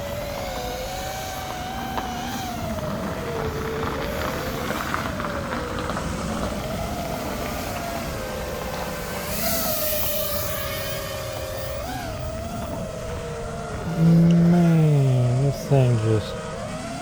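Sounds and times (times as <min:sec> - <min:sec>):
quadcopter motors whining: 0:00.0 - 0:05.2, 0:06.5 - 0:17.0.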